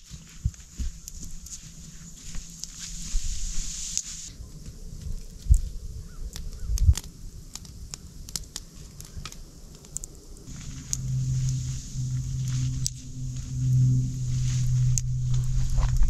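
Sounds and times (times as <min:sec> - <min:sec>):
campfire crackling and popping: 0:00.3 - 0:16.0.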